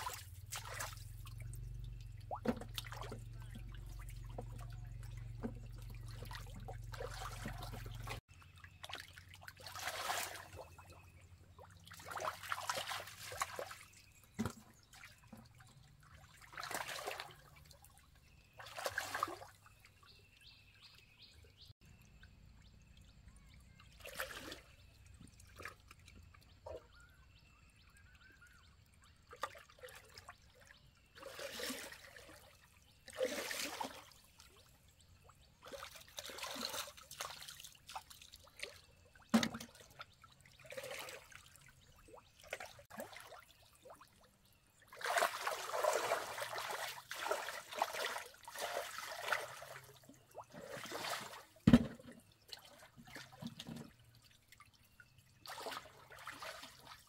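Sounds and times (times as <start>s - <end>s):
water splashing and pouring: 0.0s - 10.9s, 11.5s - 19.7s, 22.2s - 26.8s, 29.2s - 34.8s, 35.6s - 57.0s.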